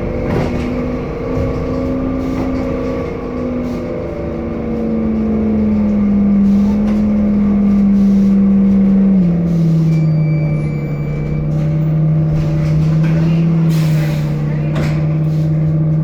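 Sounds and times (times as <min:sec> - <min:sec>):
bus engine whine: 0:00.0 - 0:16.0.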